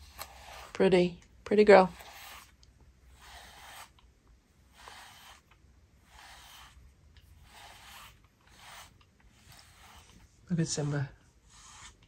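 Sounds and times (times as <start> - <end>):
brush stroking through fur: 1.6 - 4.0, 4.7 - 12.0.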